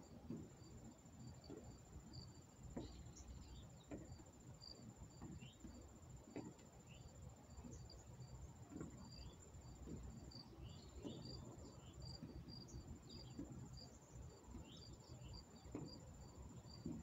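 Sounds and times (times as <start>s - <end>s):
footsteps on wooden deck: 0.1s - 17.0s.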